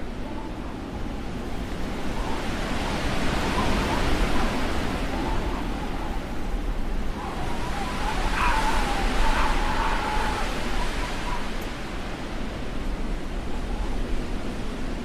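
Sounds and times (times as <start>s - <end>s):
blizzard wind rushing: 0.0s - 15.0s
wind whistling: 0.0s - 15.0s.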